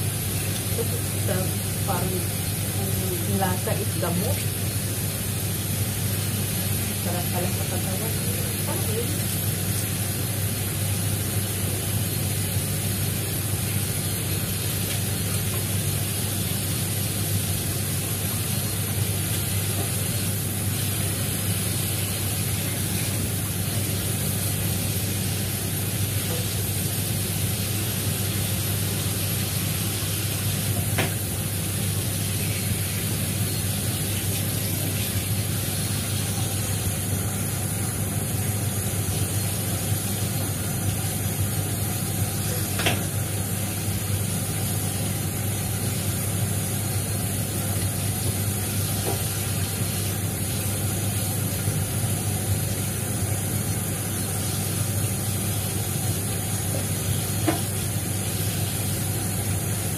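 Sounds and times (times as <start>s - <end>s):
tap water running into sink: 0.0s - 59.9s.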